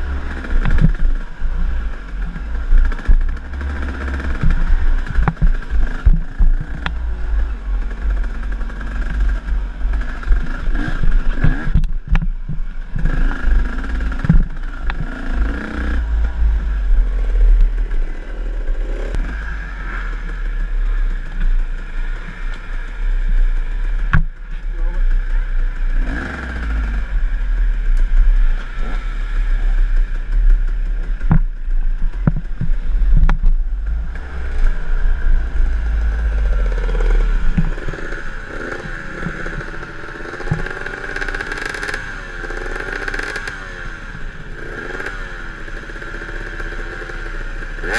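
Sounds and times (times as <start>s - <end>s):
wind rumble on microphone: 0.0s - 41.0s
dirt bike engine revving: 0.0s - 47.9s.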